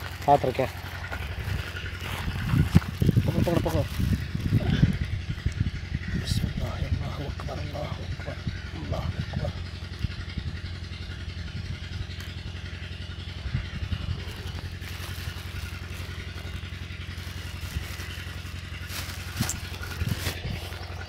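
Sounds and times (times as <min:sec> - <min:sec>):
engine idling hum: 0:00.0 - 0:21.0.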